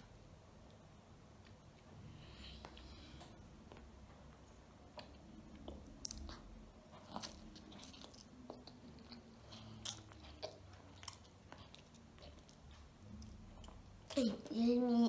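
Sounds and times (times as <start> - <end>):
child chewing with mouth smacks: 0.6 - 14.9.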